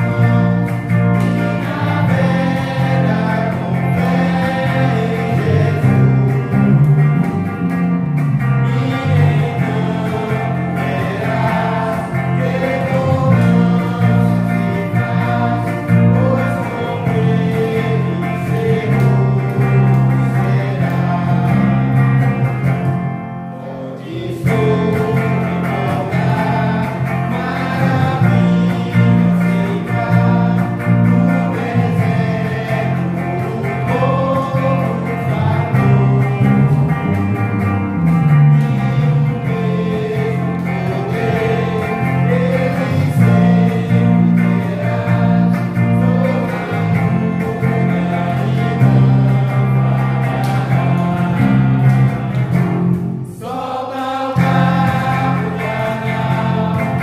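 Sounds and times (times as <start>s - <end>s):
electric guitar and bass: 0.0s - 53.4s, 54.4s - 57.0s
group singing a hymn: 0.0s - 57.0s.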